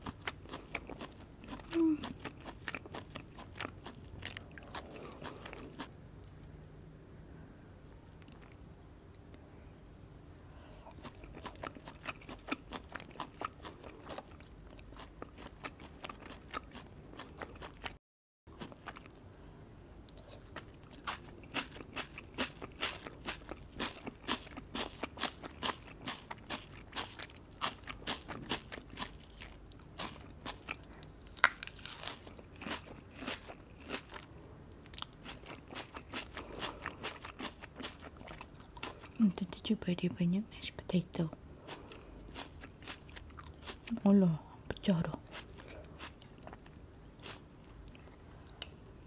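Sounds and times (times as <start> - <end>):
chewing and crunching food: 0.0 - 6.9, 8.0 - 8.7, 10.6 - 19.4, 20.0 - 39.8, 41.1 - 48.9.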